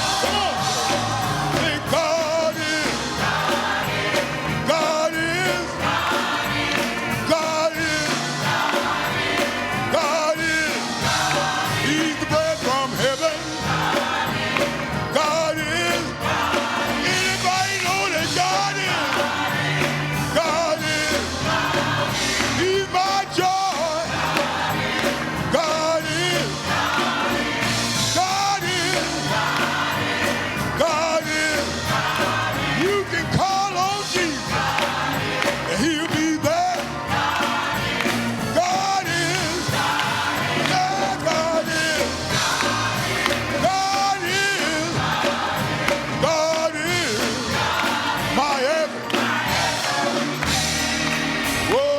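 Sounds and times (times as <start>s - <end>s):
band accompaniment: 0.0s - 51.9s
voices singing gospel: 0.0s - 51.9s.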